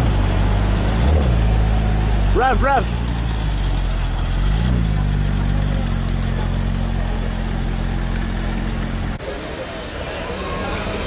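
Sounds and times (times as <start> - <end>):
car engine pulling away: 0.0 - 11.0.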